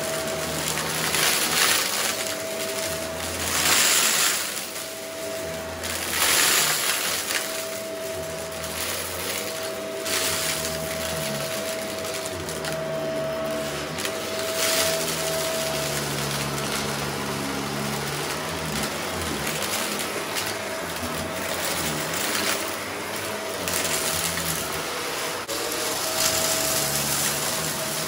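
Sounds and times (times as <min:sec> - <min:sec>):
rocks rattling through vacuum wand: 0:00.0 - 0:28.0
vacuum cleaner motor whine: 0:00.0 - 0:28.0.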